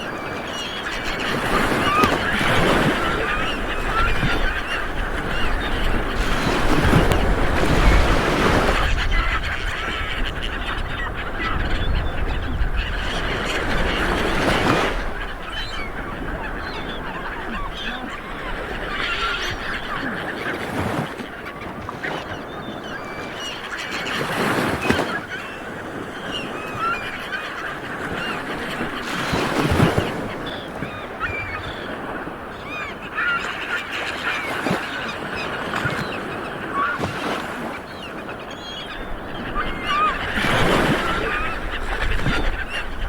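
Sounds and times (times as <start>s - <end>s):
birds calling: 0.0s - 43.0s
waves washing onto beach: 0.0s - 43.0s.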